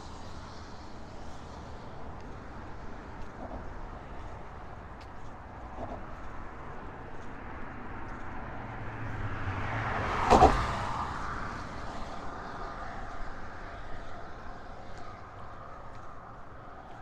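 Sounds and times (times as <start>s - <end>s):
traffic noise: 0.0s - 17.0s
vehicle passing: 0.0s - 17.0s.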